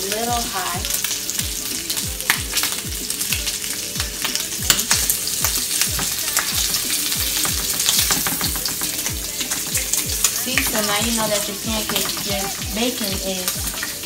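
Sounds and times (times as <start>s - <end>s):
bacon sizzling in a skillet: 0.0s - 14.0s.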